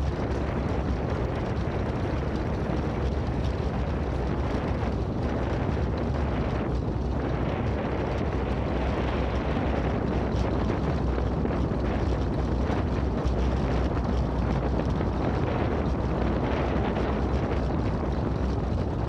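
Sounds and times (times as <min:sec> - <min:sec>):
tyres rolling over cobblestones: 0:00.0 - 0:19.0
wind buffeting microphone: 0:00.0 - 0:19.0.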